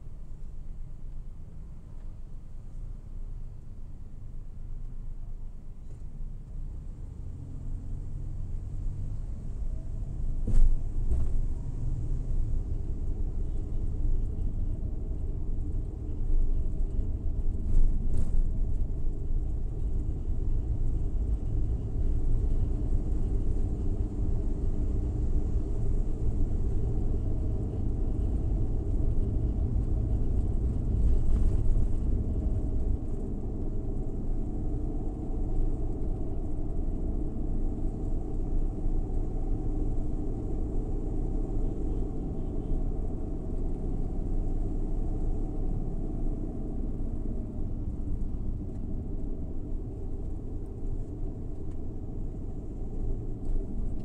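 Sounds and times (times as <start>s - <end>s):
van engine and road rumble: 0.0s - 54.0s.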